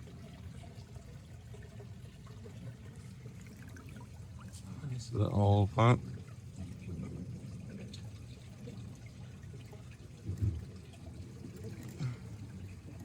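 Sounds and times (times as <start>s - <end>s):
water trickling and pouring: 0.0s - 13.0s.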